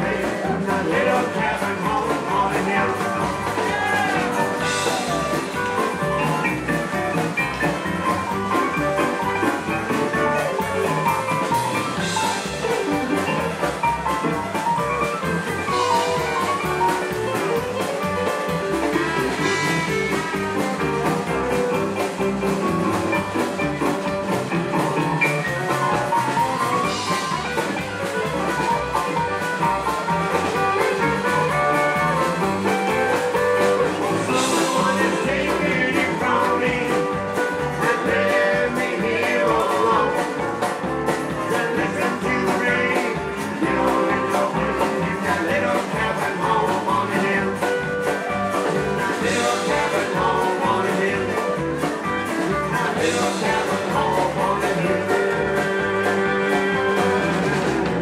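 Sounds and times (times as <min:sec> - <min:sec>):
drum kit: 0:00.0 - 0:58.0
electric guitar: 0:00.0 - 0:58.0
rockabilly band playing live: 0:00.0 - 0:58.0
upright double bass: 0:00.0 - 0:58.0.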